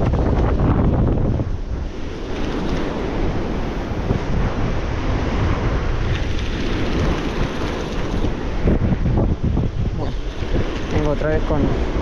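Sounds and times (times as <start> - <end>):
surf breaking on rocks: 0.0 - 12.0
wind buffeting microphone: 0.0 - 12.0.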